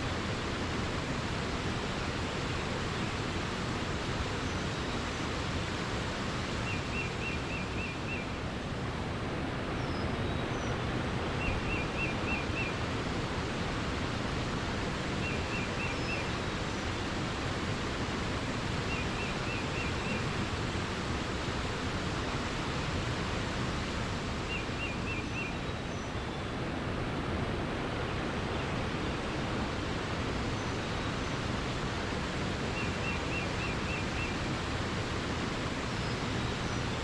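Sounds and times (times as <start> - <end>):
rush of flowing water: 0.0 - 37.0.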